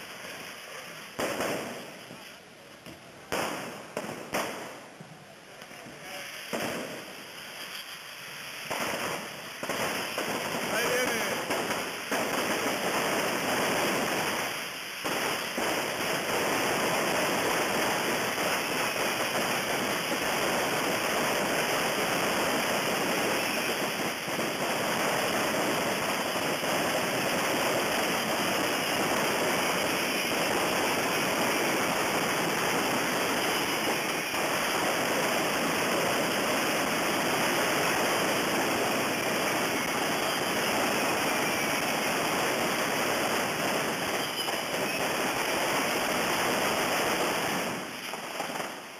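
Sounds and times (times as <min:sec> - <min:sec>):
ground rockets hissing: 0:00.0 - 0:48.9.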